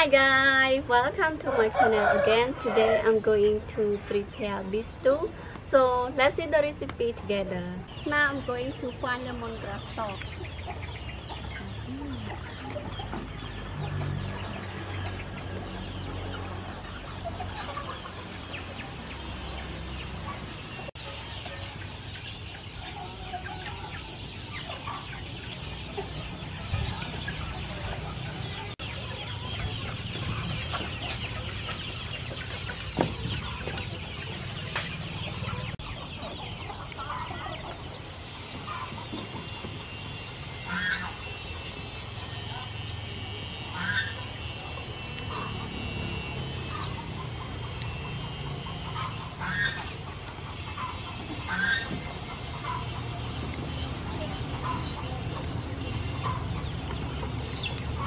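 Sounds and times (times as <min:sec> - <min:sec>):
chickens clucking: 0:00.0 - 0:58.0
outdoor background noise: 0:00.0 - 0:58.0.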